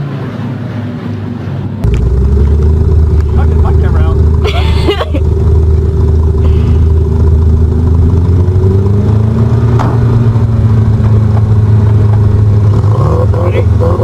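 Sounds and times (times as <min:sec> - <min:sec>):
car engine running: 0:01.8 - 0:14.0.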